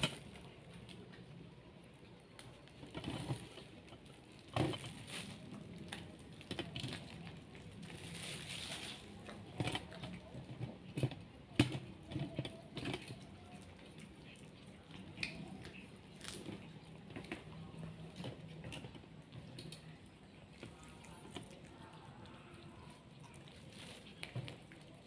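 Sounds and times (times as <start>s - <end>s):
cats crunching fish scraps: 0.0s - 25.0s.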